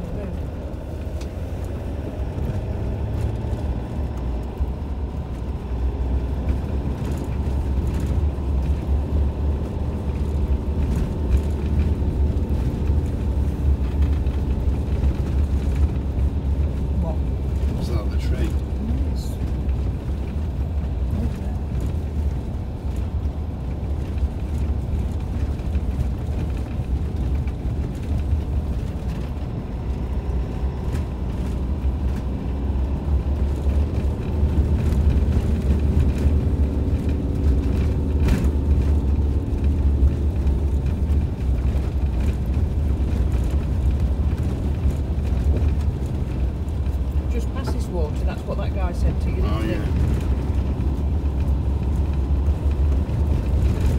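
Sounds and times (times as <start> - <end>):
vehicle rumbling on gravel: 0.0 - 53.9.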